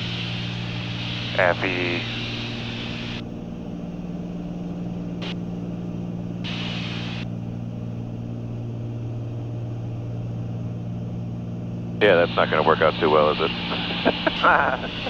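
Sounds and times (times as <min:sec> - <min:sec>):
aircraft engines droning in cabin: 0:00.0 - 0:15.0.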